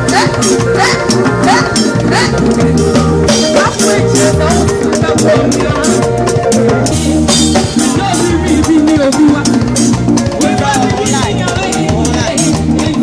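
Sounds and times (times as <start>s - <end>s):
drum kit beat: 0.0s - 13.0s
live band music: 0.0s - 13.0s.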